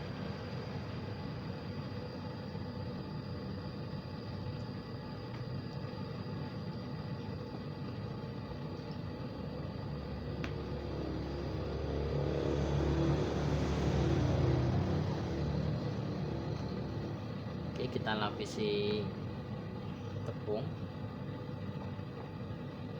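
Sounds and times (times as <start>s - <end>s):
faint steady whine: 0.0s - 22.9s.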